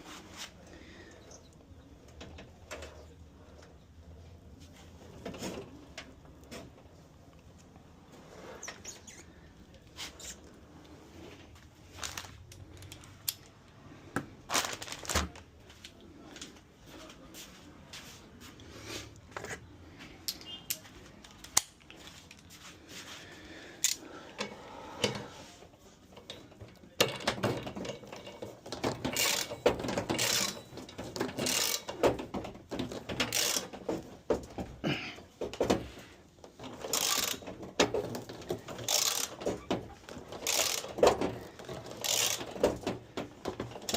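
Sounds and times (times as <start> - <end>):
tools and parts clicking and rattling: 1.1 - 15.5, 20.2 - 22.7, 23.8 - 43.9.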